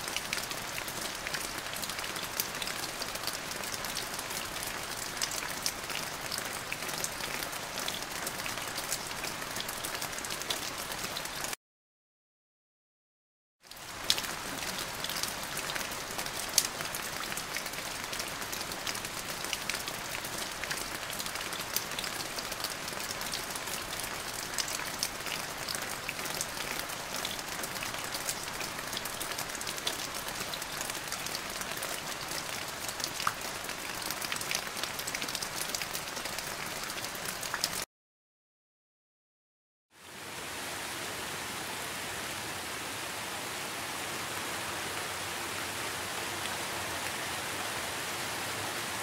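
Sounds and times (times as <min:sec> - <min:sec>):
steady rain: 0:00.0 - 0:11.6, 0:13.6 - 0:37.9, 0:39.9 - 0:49.0.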